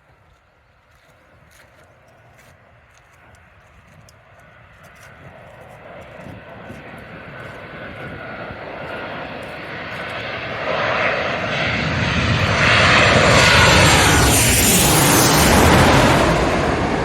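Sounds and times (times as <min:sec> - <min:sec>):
airliner passing overhead: 0:00.1 - 0:17.0.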